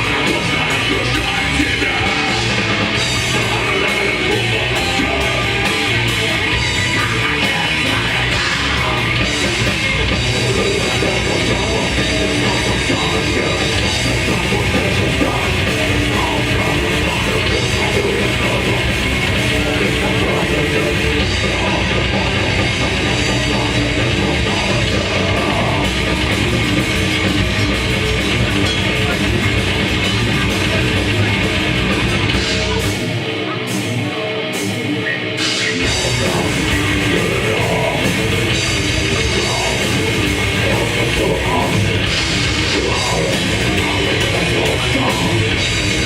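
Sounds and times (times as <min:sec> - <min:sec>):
death metal band playing: 0:00.0 - 0:46.0.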